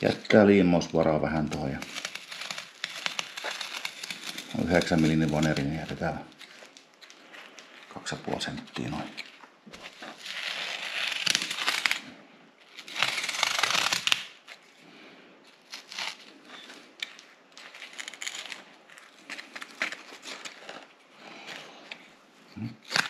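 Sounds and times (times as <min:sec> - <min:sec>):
felt scraping and rustling: 0:00.0 - 0:22.5.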